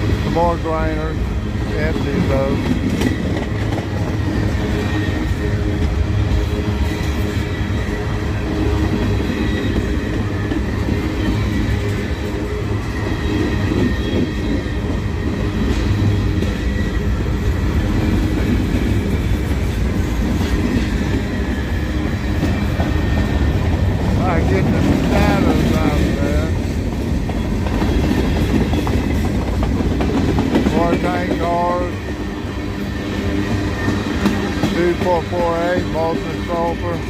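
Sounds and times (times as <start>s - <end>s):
steel wheels rumbling on rail: 0.0s - 37.0s.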